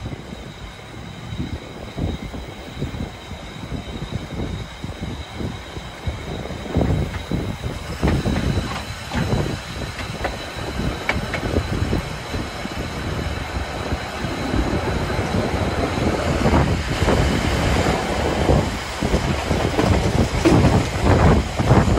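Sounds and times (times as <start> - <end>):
train rumbling along track: 0.0 - 21.9
wheels clicking and knocking: 1.3 - 21.9.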